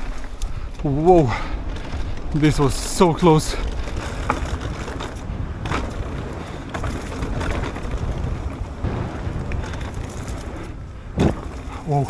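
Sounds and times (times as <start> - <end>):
bike tyre rumble: 0.0 - 12.0
wind rushing over microphone: 0.0 - 12.0.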